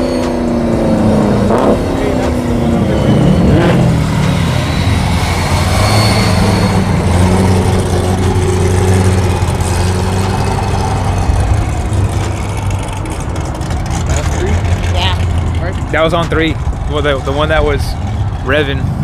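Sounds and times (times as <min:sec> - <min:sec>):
car engine revving: 0:00.0 - 0:19.0
engines idling with low rumble: 0:00.0 - 0:19.0.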